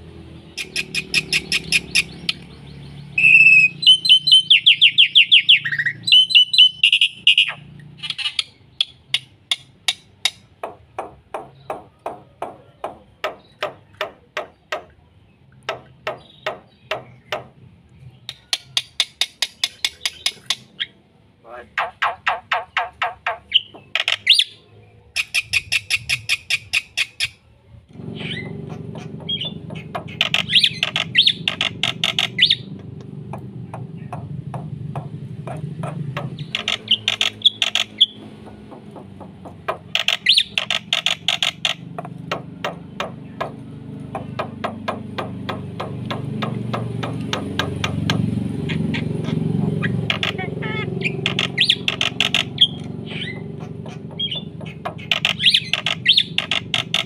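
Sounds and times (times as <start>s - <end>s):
bird singing harsh repeated notes: 0.0s - 57.0s.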